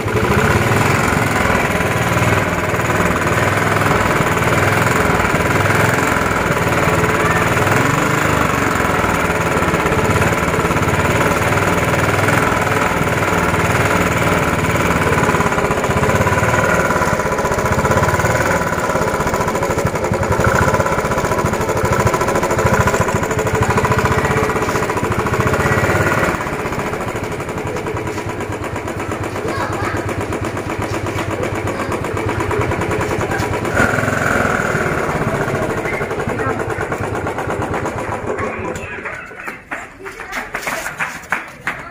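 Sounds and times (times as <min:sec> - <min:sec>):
motorcycle engine revving: 0:00.0 - 0:39.3.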